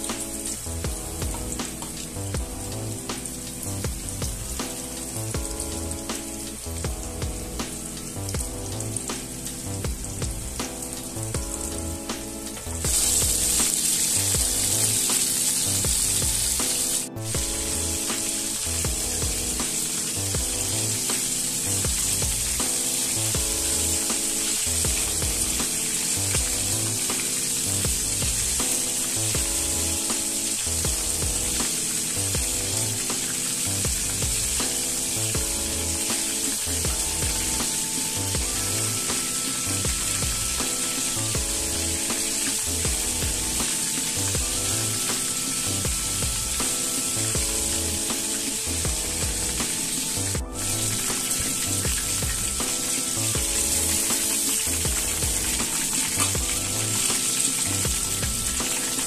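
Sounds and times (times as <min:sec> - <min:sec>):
background music with a beat: 0:00.0 - 0:59.0
chicken sizzling in hot oil: 0:00.0 - 0:59.0.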